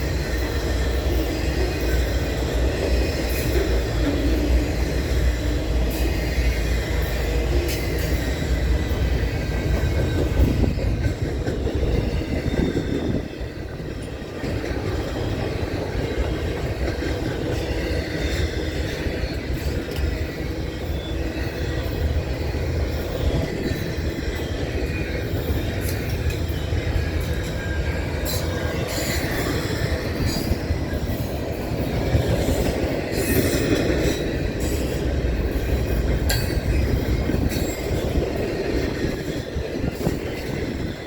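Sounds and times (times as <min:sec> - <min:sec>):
freight train wheels clattering: 0:00.0 - 0:41.0.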